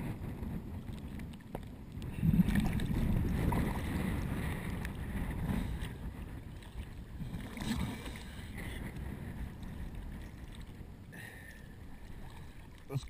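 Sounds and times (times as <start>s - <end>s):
water sloshing and splashing: 0.7s - 13.0s.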